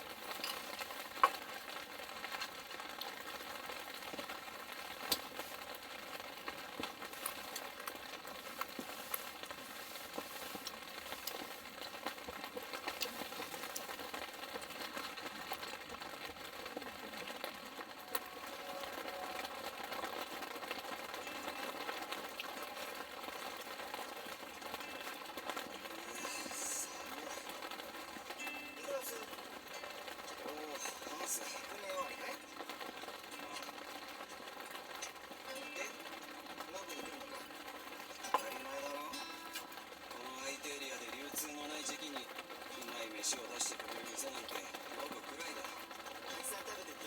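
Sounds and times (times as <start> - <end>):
food sizzling in a pan: 0.0 - 47.0
small crackles and pops: 0.0 - 47.0.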